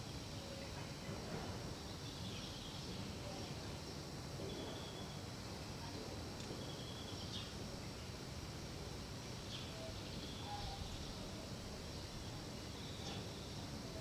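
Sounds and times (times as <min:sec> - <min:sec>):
low rumble of background noise: 0:00.0 - 0:14.0.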